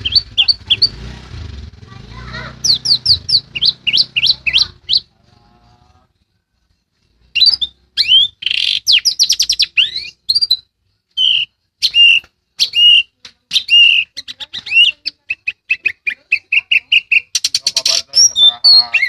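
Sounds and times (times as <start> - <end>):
songbird chirping and singing: 0.0 - 1.1, 2.3 - 19.0.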